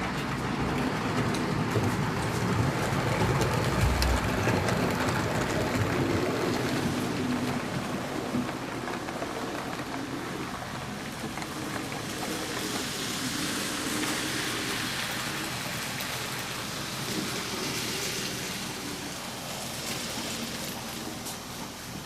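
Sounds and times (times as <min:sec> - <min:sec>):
model train wheels rolling: 0:00.0 - 0:22.0.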